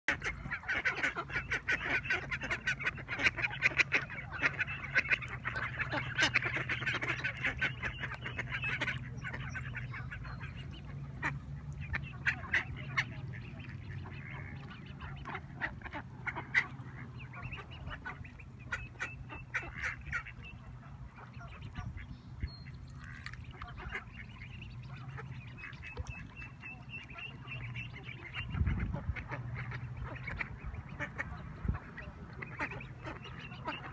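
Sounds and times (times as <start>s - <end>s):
ducks quacking: 0.1s - 33.9s.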